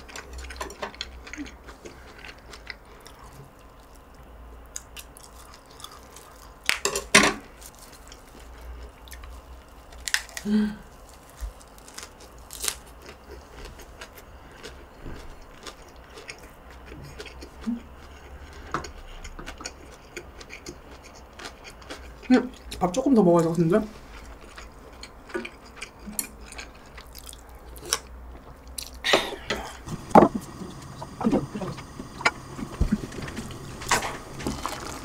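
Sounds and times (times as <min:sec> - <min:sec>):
chewing crunchy lettuce wrap: 0:00.0 - 0:06.8, 0:07.5 - 0:29.0, 0:32.7 - 0:35.0.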